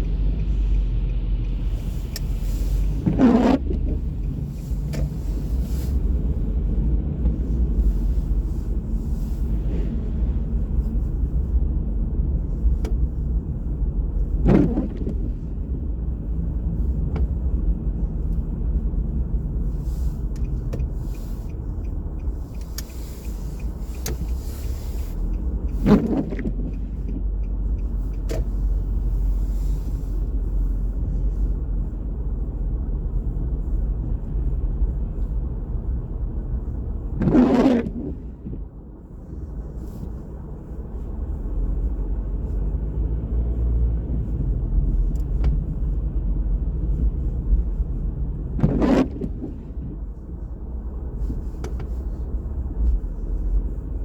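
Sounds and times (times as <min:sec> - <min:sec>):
street traffic rumbling: 0:00.0 - 0:54.0.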